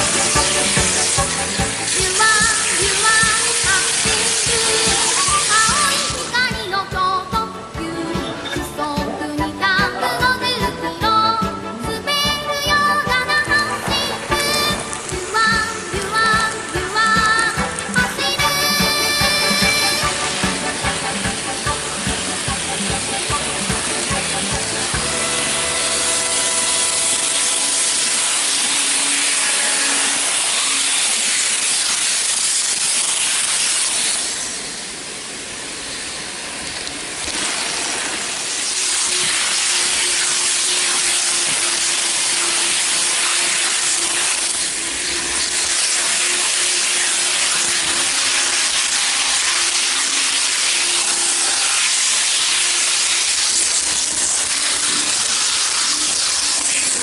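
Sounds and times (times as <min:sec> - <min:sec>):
model train wheels and motor hissing: 0:00.0 - 0:08.2, 0:08.9 - 0:57.0.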